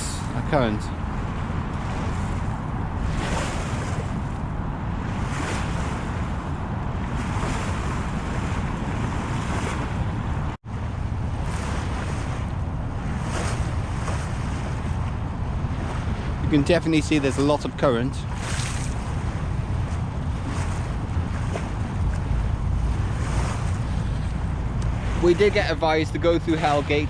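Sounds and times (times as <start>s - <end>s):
water rushing along hull: 0.0s - 27.0s
wind buffeting microphone: 0.0s - 27.0s.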